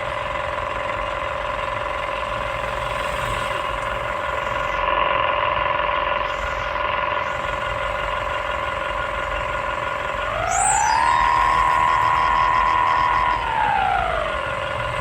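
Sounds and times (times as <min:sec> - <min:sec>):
excavator engine rumble: 0:00.0 - 0:15.0
excavator high whine: 0:00.0 - 0:15.0.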